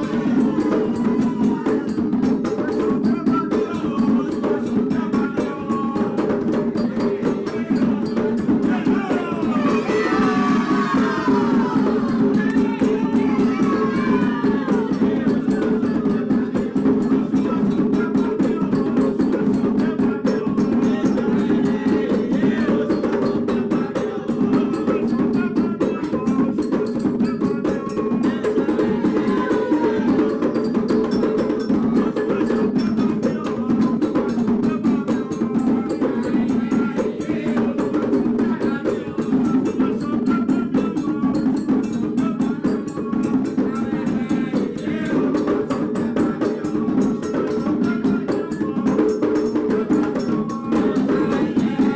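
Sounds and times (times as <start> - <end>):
metal bell percussion: 0.0 - 38.3, 39.1 - 51.9
hand drums: 0.0 - 51.9.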